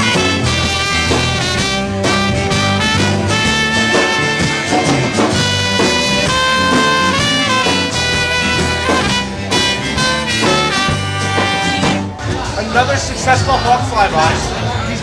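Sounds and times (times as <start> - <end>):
band playing upbeat song: 0.0 - 15.0.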